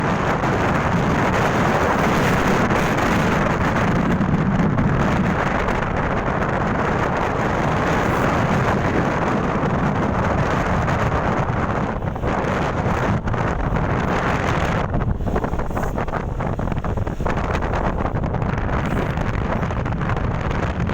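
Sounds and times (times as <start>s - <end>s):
wind rushing over microphone: 0.0s - 20.9s.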